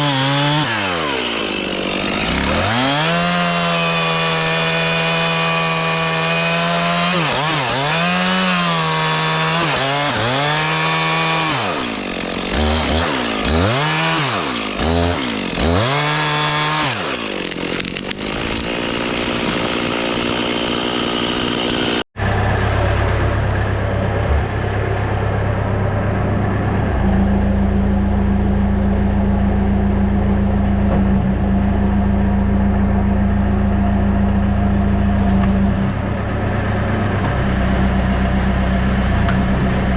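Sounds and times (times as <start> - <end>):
engine revving: 0.0 - 39.9
heavy machine engine running: 0.0 - 39.9.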